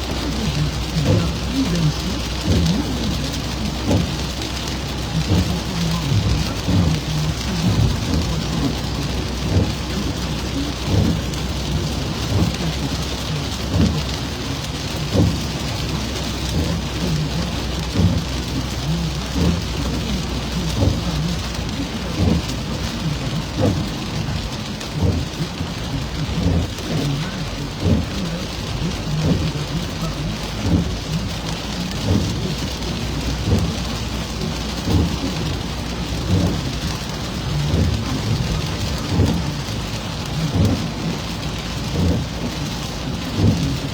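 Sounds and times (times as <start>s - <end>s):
heavy rain: 0.0s - 43.9s
thumps of raindrops striking: 0.0s - 43.9s.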